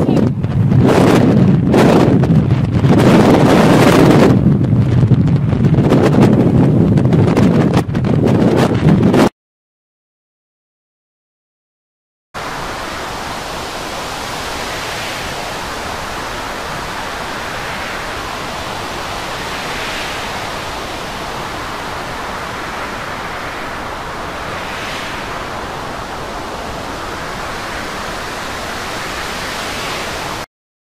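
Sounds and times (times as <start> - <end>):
rough sea: 0.0 - 9.3, 12.4 - 30.5
storm wind: 0.0 - 9.3, 12.4 - 30.5.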